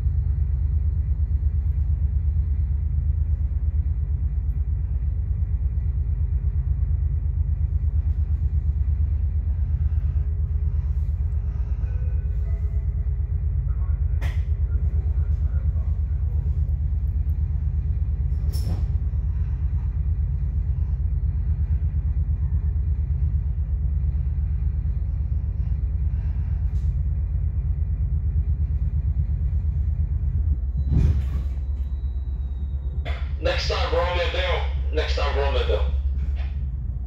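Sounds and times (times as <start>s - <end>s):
train coach rumble: 0.0s - 37.0s.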